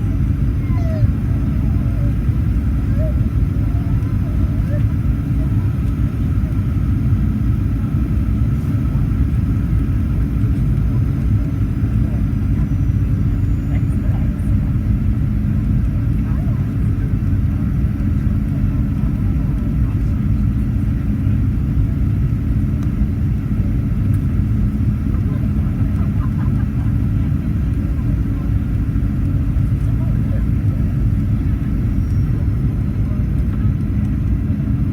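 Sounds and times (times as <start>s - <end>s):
airliner engine and airflow rumble: 0.0s - 34.9s.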